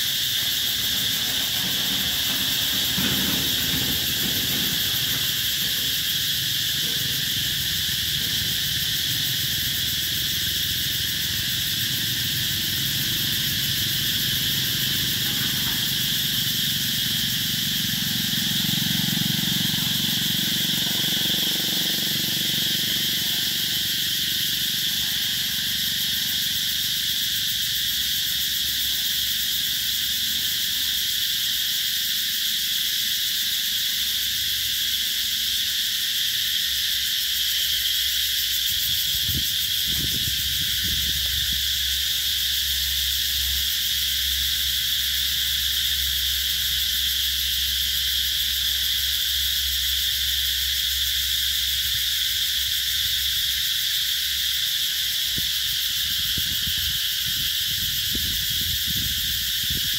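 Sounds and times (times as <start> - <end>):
cicadas shrilling: 0.0 - 59.9.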